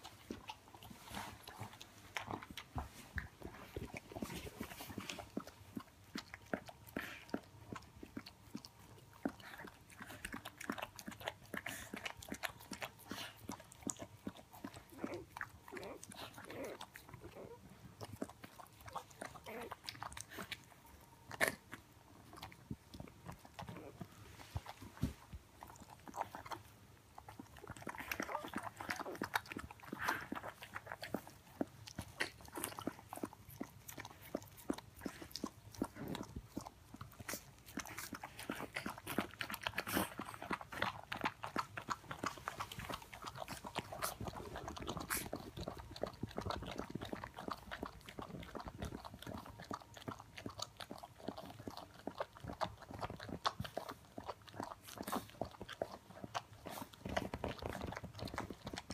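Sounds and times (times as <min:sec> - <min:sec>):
dogs wet mouth smacks and chewing: 0:00.0 - 0:58.9.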